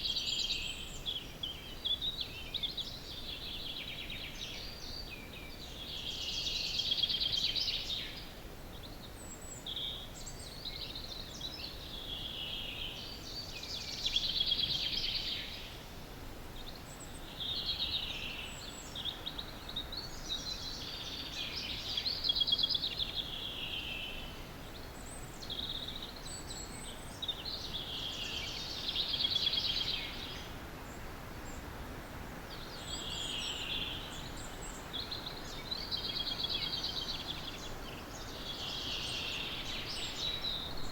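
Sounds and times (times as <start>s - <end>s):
background hiss: 0.0s - 40.9s
songbird singing: 0.0s - 40.9s.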